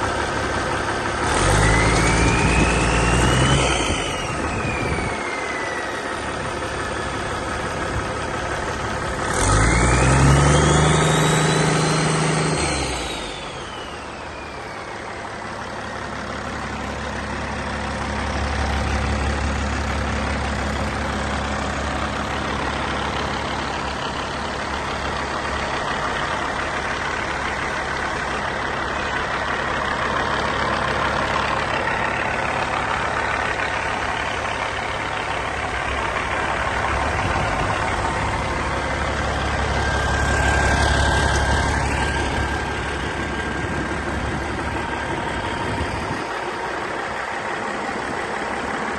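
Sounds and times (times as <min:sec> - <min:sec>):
diesel engine idling and revving: 0:00.0 - 0:48.9
turbo whine: 0:01.3 - 0:30.2, 0:31.0 - 0:48.9.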